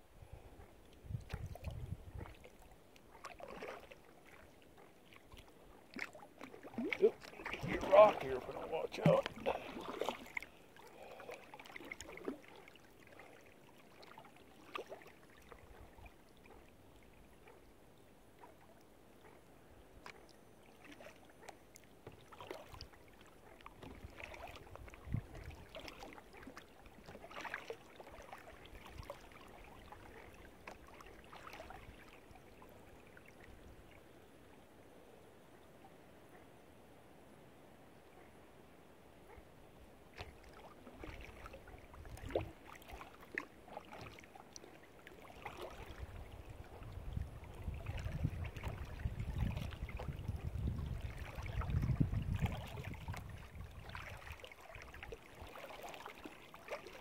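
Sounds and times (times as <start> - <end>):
kayak paddle splashing: 0.0 - 17.8, 18.4 - 34.1, 40.0 - 57.0.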